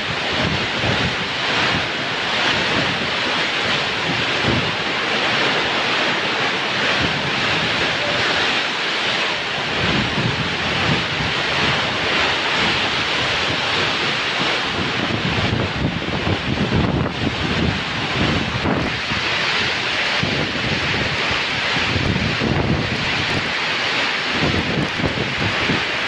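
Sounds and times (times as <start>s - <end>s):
heavy rain hissing: 0.0s - 26.0s
wind buffeting microphone: 0.0s - 26.0s.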